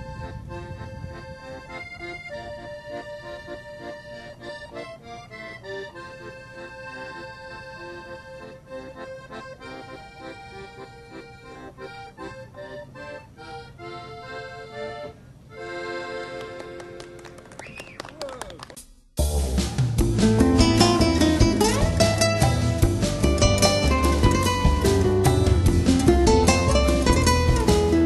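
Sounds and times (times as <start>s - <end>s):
accordion playing a tune: 0.0s - 17.6s, 20.0s - 28.0s.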